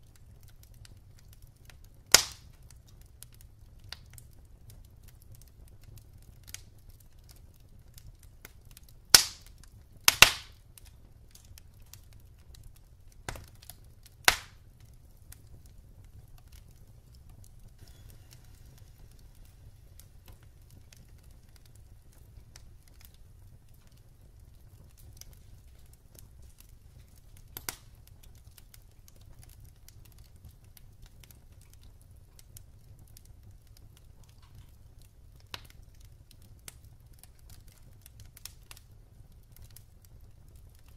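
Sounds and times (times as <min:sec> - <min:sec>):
low rumble of fire: 0:00.0 - 0:40.9
sharp pops of fire: 0:00.0 - 0:40.9
wood fire crackling: 0:00.0 - 0:40.9.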